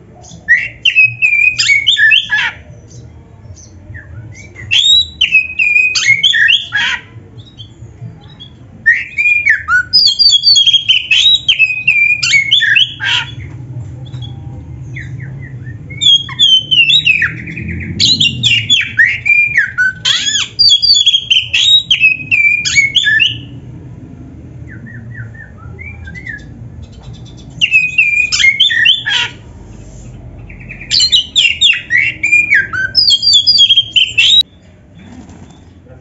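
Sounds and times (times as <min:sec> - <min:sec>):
bird singing: 0:00.1 - 0:23.6, 0:24.7 - 0:29.4, 0:30.4 - 0:35.8.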